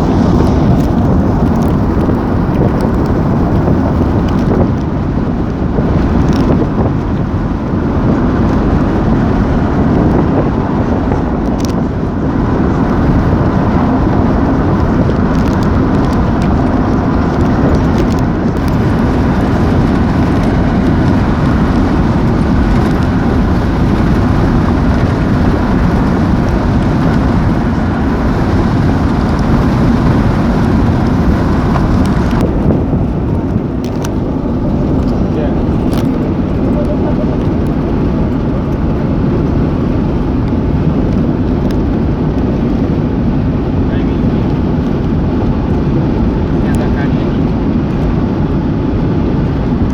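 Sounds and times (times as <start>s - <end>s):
strong wind on microphone: 0.0s - 49.9s.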